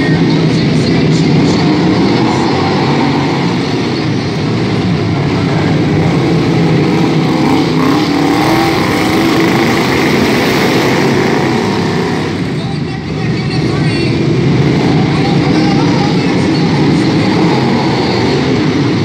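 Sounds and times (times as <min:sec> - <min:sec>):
lawn mower engines buzzing: 0:00.0 - 0:19.0.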